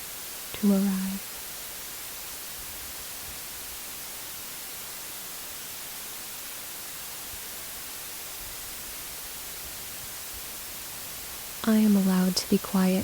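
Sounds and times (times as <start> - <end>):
white noise hiss: 0.0 - 13.0.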